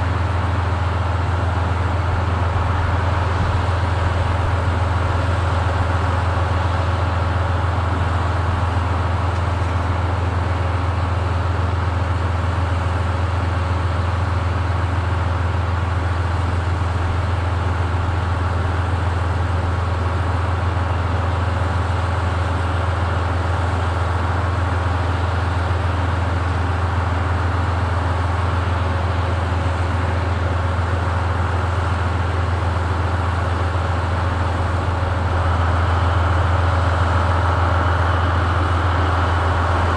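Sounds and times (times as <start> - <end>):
diesel train engine idling: 0.0 - 39.9.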